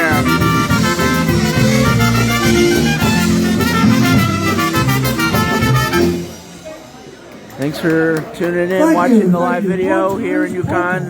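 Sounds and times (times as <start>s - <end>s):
dance band playing: 0.0s - 11.0s.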